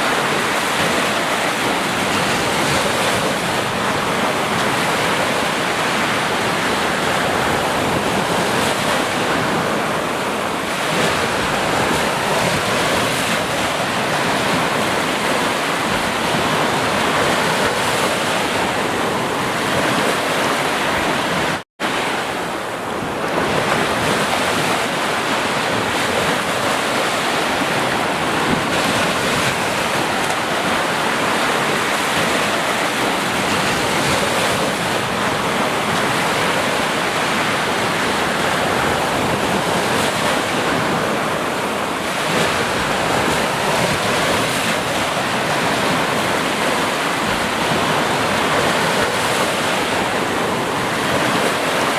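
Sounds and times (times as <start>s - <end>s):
ocean waves washing ashore: 0.0s - 51.9s.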